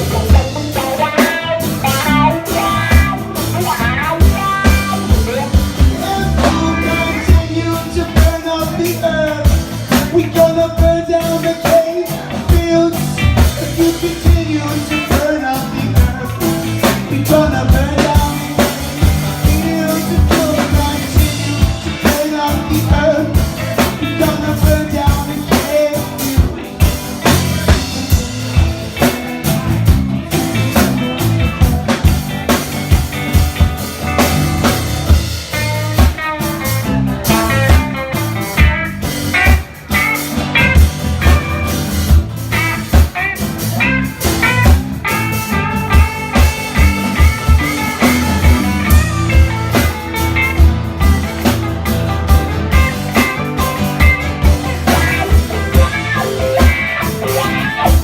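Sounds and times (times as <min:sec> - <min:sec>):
drum kit beat: 0:00.0 - 0:58.0
electric guitar line: 0:00.0 - 0:58.0
live band playing: 0:00.0 - 0:58.0.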